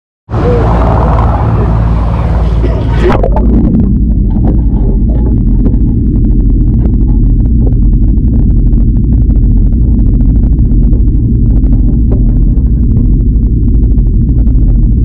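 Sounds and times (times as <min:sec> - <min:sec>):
underwater low rumble: 0:00.3 - 0:15.0.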